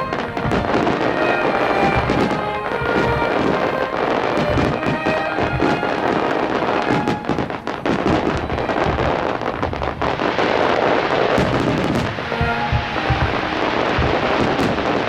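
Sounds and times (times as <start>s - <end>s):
fireworks booming bursts: 0.0s - 15.0s
fireworks crackling: 0.0s - 15.0s.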